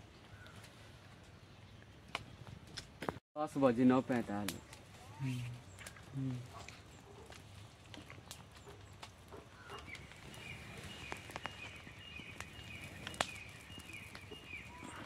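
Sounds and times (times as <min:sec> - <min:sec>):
dry grass and twigs crackling: 0:00.0 - 0:15.0.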